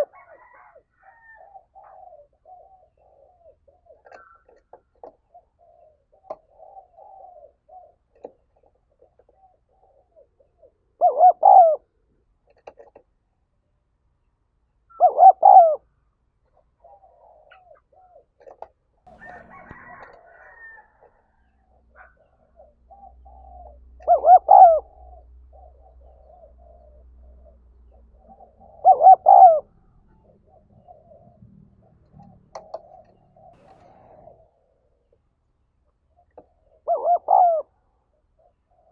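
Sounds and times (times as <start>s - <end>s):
dove cooing: 0.0s - 12.0s, 14.9s - 15.9s, 16.6s - 18.5s, 19.1s - 34.7s, 36.2s - 38.9s.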